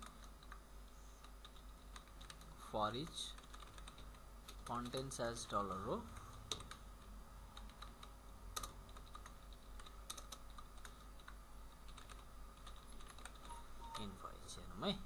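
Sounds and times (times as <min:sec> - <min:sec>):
faint keyboard typing: 0:00.0 - 0:15.0
low steady hum: 0:00.0 - 0:15.0.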